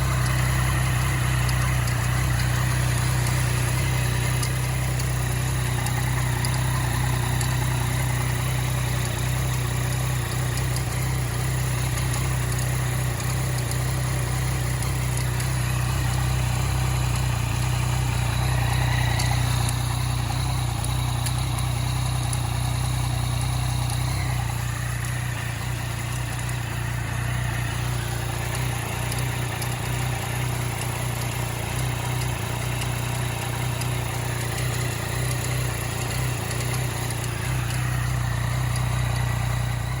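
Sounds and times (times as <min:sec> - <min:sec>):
engine clicking: 0:00.0 - 0:40.0
motorcycle engine idling: 0:00.0 - 0:40.0.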